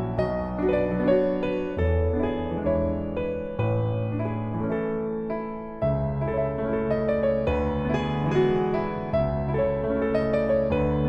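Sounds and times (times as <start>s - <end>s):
soft slow piano melody: 0.0s - 11.0s.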